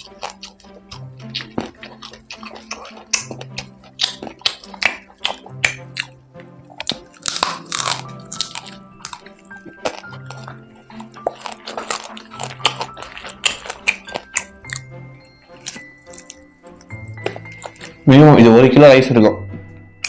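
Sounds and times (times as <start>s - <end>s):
crunching and chewing: 0.0s - 18.1s
background music with low notes: 0.0s - 20.0s.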